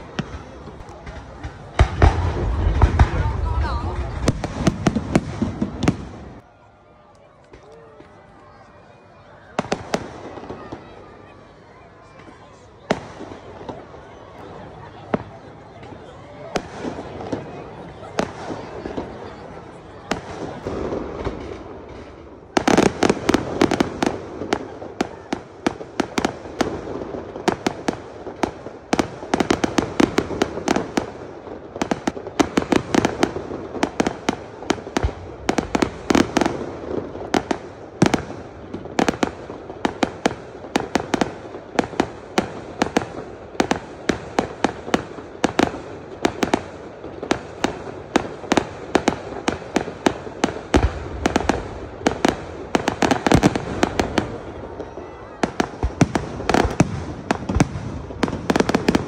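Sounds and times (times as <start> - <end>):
fireworks bursting and crackling: 0.0 - 6.4, 7.2 - 59.0.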